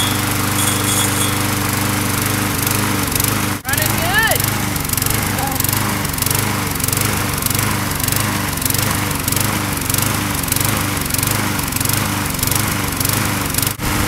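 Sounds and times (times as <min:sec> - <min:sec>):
lawn mower engine surging: 0:00.0 - 0:14.0.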